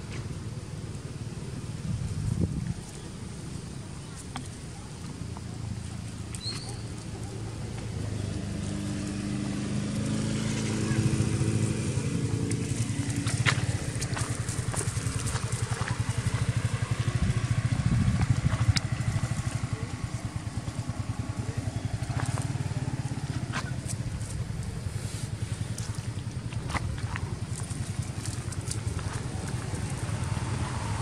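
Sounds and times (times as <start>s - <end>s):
engine running steadily: 0.0s - 31.0s
rustles: 0.0s - 31.0s.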